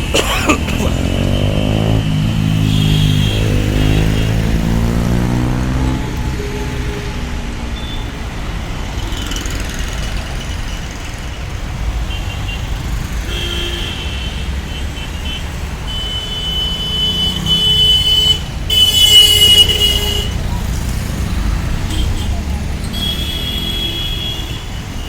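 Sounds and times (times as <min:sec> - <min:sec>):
road traffic rumbling: 0:00.0 - 0:25.0.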